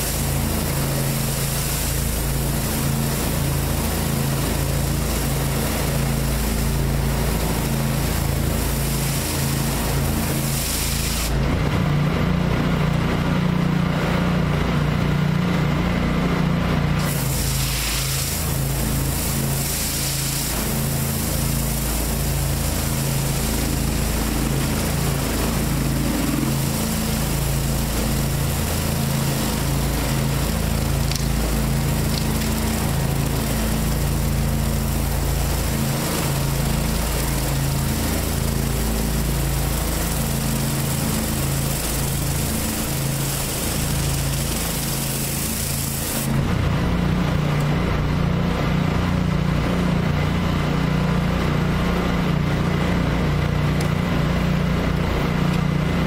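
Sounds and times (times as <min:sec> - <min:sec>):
water spraying onto concrete: 0:00.0 - 0:13.6, 0:16.9 - 0:51.8
pressure washer engine running: 0:00.0 - 0:56.0.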